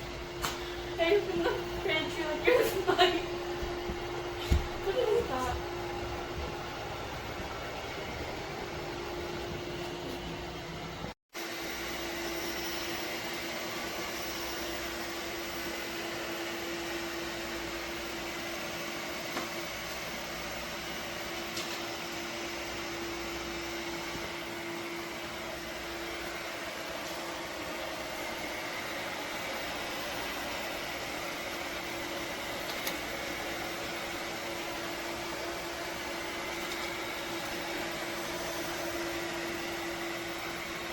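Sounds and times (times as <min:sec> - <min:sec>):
robot vacuum motor hum: 0:00.0 - 0:40.9.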